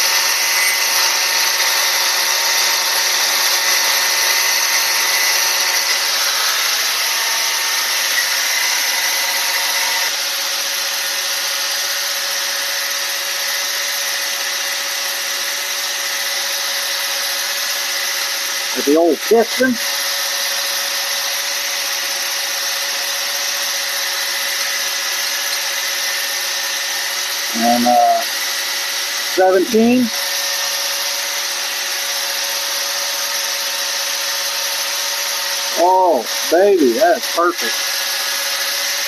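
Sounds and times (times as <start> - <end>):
grinder whirring: 0.0 - 39.0.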